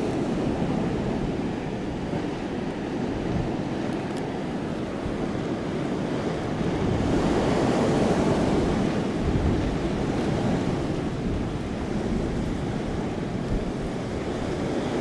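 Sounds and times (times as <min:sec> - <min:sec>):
blizzard wind gusting: 0:00.0 - 0:15.0.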